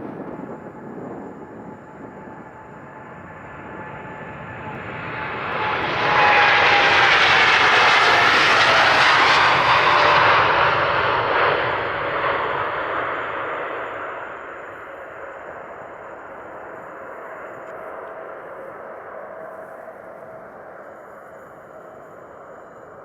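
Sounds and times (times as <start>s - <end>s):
jet engine whine falling in pitch: 0.0s - 23.0s
jet engines roaring: 0.0s - 23.0s.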